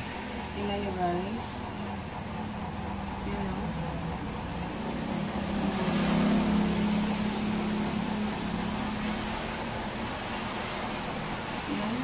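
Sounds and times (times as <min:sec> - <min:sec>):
vehicle driving past on wet street: 0:02.0 - 0:12.0.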